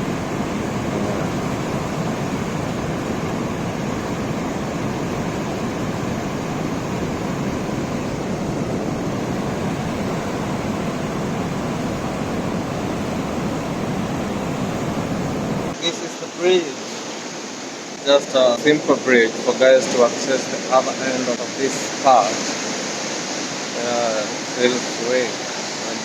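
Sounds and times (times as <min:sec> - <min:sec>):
fast river rushing: 0:00.0 - 0:26.0.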